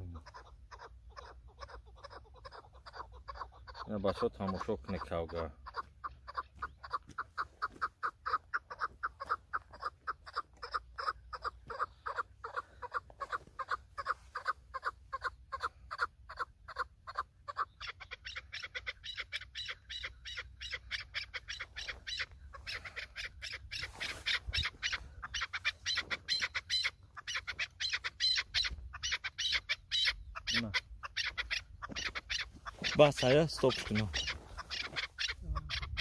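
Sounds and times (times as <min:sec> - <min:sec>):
partridges squawking: 0:00.0 - 0:36.0.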